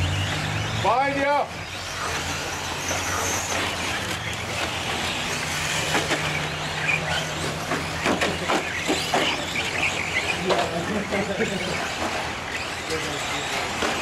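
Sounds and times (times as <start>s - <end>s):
rc truck motor whine: 0.0s - 14.0s.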